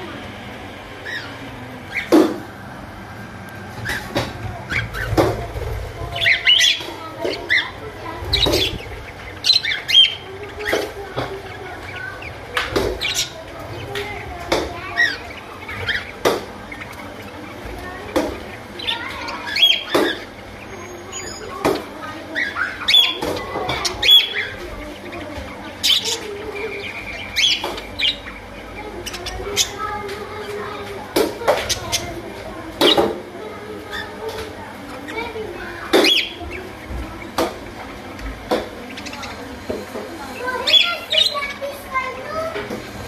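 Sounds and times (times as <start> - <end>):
budgerigars chirping and squawking: 0.0 - 43.0.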